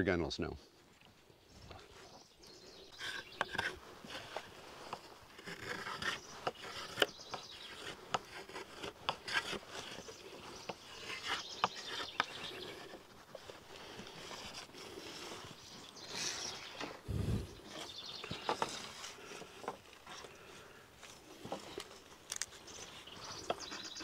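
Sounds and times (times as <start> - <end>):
knife scraping wood: 2.9 - 24.0.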